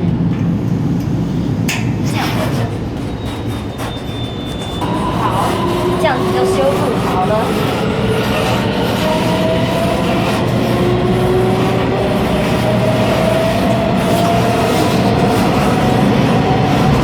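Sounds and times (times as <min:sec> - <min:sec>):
train running rumble: 0:00.0 - 0:17.0
thin whine: 0:00.7 - 0:17.0.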